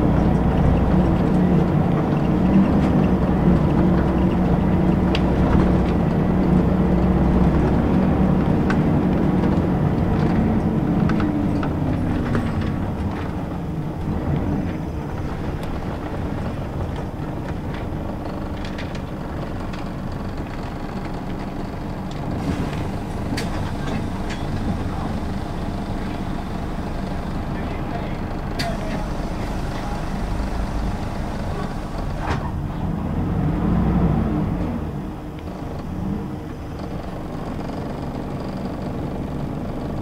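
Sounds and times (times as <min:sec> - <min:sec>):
bus diesel engine: 0:00.0 - 0:40.0
road noise: 0:00.0 - 0:40.0.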